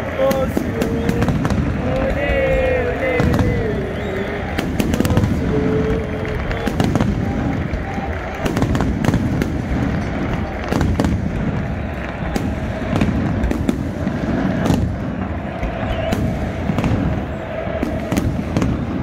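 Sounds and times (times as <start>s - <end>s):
fireworks bangs: 0.0s - 19.0s
stadium crowd din: 0.0s - 19.0s.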